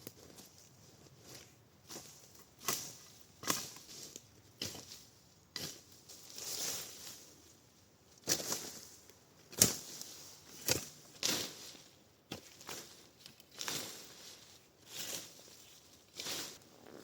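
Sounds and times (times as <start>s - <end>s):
rustling crunches and crackles: 0.0s - 4.9s, 8.2s - 17.0s.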